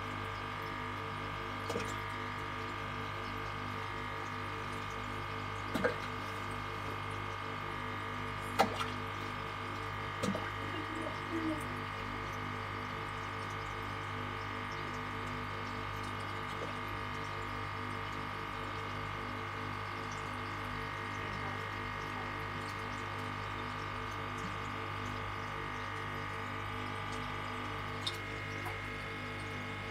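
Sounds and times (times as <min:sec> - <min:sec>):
aquarium pump humming: 0:00.0 - 0:29.9.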